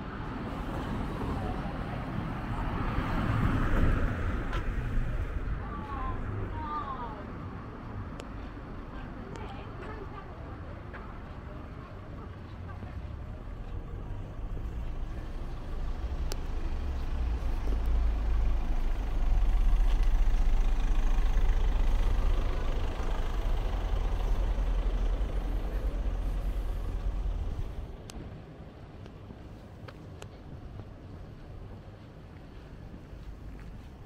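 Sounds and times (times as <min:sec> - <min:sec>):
heavy vehicle engine rumble: 0:00.0 - 0:34.0.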